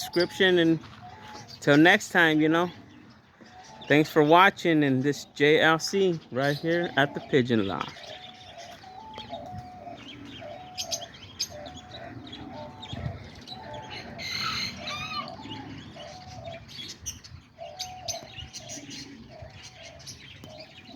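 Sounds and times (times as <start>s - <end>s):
bird chirps and tweets: 0.0s - 20.9s.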